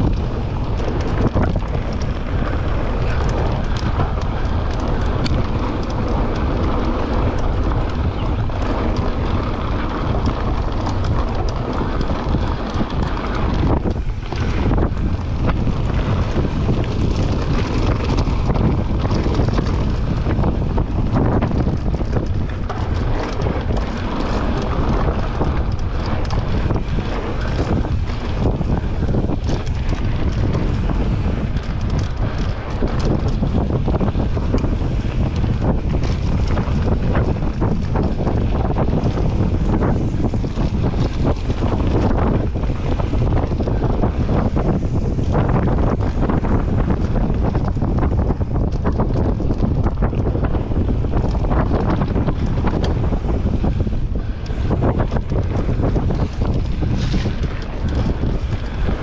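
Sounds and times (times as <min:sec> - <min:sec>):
bike clicks and rattles: 0:00.0 - 0:59.0
tyres on dirt and gravel: 0:00.0 - 0:59.0
wind buffeting microphone: 0:00.0 - 0:59.0.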